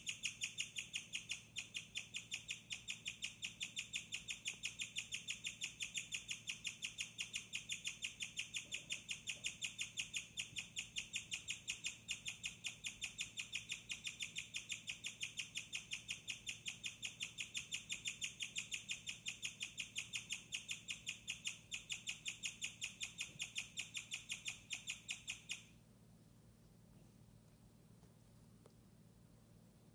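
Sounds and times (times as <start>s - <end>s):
guinea pig chirping: 0.0s - 25.8s.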